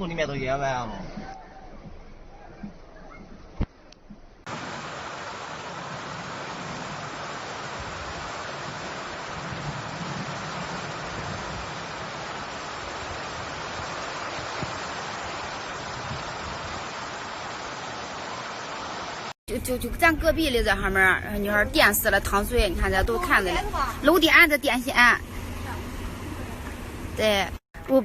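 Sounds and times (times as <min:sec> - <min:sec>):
water rushing: 0:04.4 - 0:27.6.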